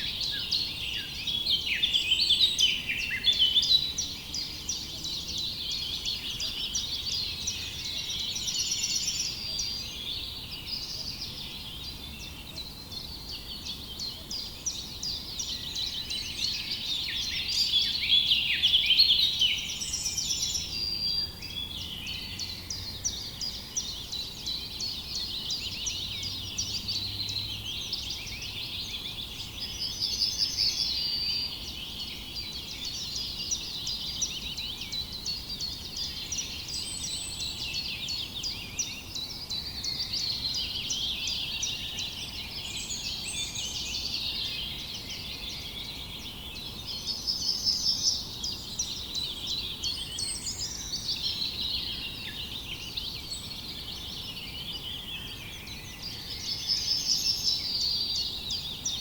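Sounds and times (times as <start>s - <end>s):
small birds chirping chorus: 0.0s - 59.0s.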